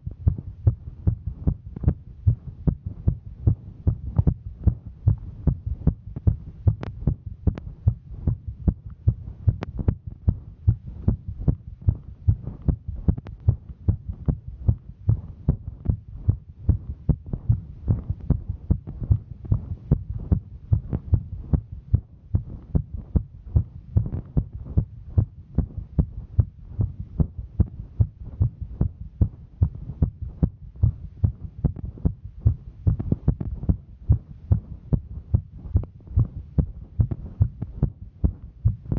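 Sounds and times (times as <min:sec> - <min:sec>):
heartbeat: 0:00.0 - 0:38.9.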